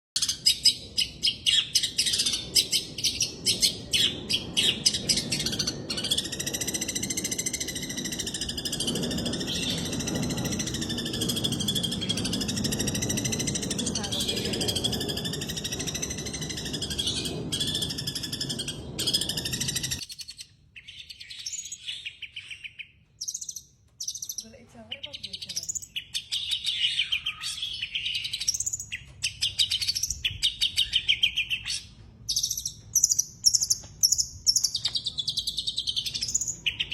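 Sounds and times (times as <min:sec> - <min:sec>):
small bird chirping and trilling: 0:00.2 - 0:36.9.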